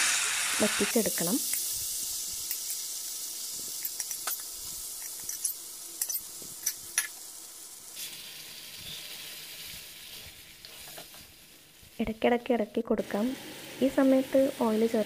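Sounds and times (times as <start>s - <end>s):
meat sizzling in a frying pan: 0.0s - 12.2s, 13.0s - 15.0s.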